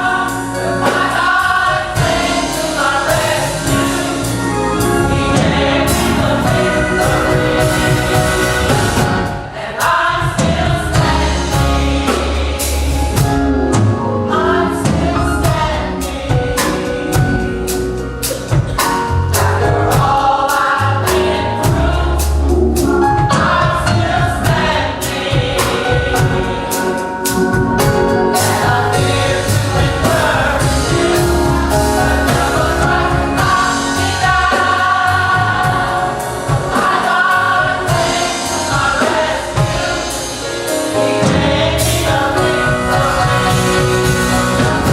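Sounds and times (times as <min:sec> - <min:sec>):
bass line: 0:00.0 - 0:09.4, 0:10.4 - 0:18.4, 0:20.8 - 0:40.4, 0:41.0 - 0:44.9
sharp percussion hits: 0:00.0 - 0:14.0, 0:22.8 - 0:44.9
band accompaniment: 0:00.0 - 0:44.9
gospel choir singing: 0:00.0 - 0:44.9.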